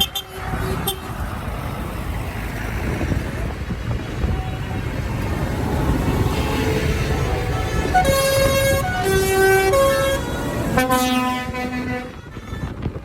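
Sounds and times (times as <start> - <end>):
tractor engines rumbling: 0.0 - 13.0.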